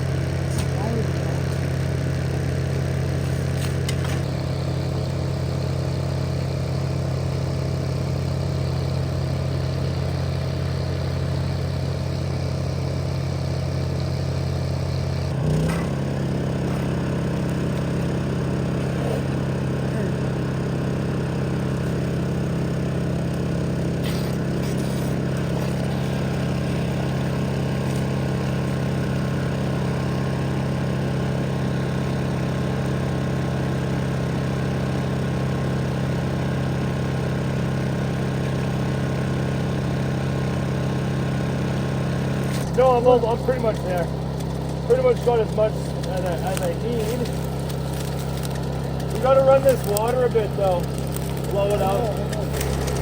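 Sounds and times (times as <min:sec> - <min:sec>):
engine droning: 0:00.0 - 0:53.0.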